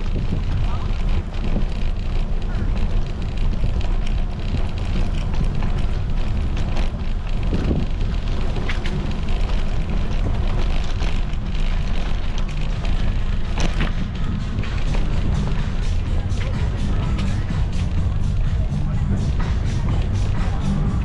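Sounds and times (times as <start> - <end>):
bike clicks and knocks: 0.0 - 21.0
wind buffeting microphone: 0.0 - 21.0.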